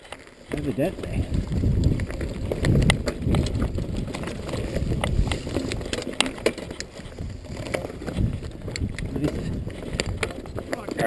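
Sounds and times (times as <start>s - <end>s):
bike rattling over rocks: 0.0s - 11.0s
bike tyres rumbling on trail: 0.0s - 11.0s.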